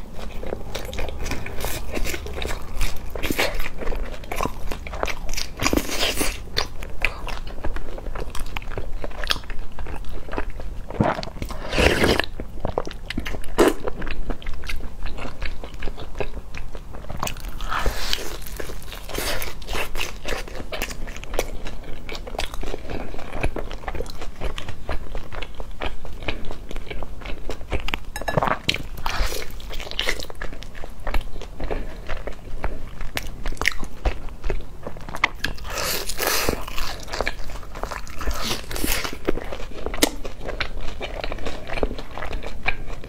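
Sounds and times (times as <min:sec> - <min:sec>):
close biting and chewing: 0:00.0 - 0:43.0.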